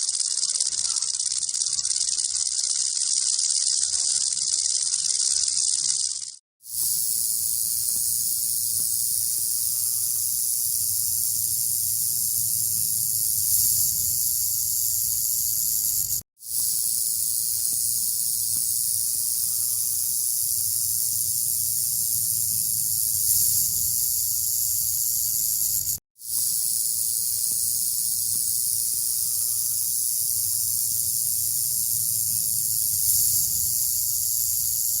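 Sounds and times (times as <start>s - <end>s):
rattlesnake rattling: 0.0s - 35.0s.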